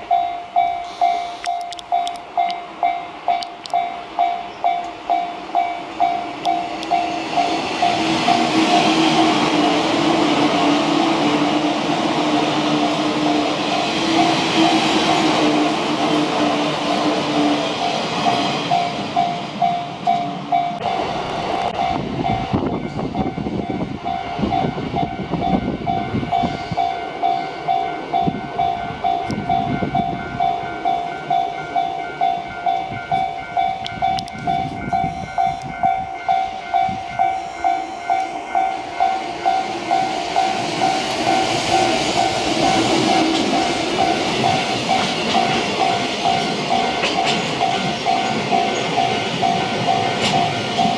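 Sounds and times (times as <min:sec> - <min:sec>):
level-crossing bell clanging: 0:00.0 - 0:11.4, 0:12.3 - 0:50.9
train rumbling through crossing: 0:00.0 - 0:50.9.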